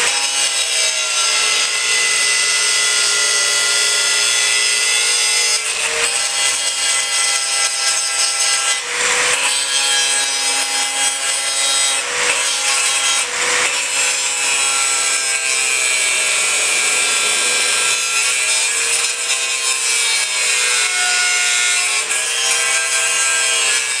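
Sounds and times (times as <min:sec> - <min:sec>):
electric power tool cutting: 0:00.0 - 0:24.0.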